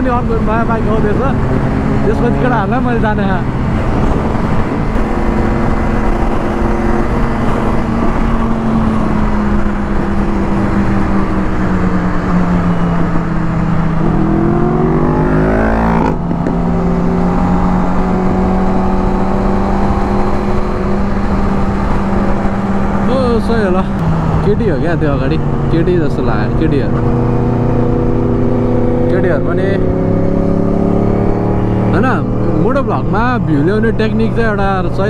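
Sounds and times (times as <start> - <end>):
motorcycle engines cruising: 0.0 - 35.0
road and wind noise: 0.0 - 35.0.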